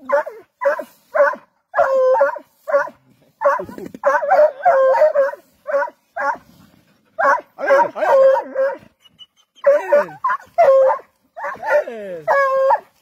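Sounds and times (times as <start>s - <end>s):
dogs yelping and barking: 0.0s - 13.0s.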